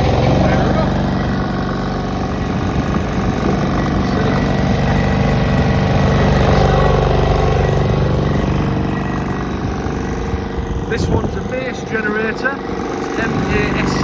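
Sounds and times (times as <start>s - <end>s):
generator engine hum: 0.0s - 14.0s.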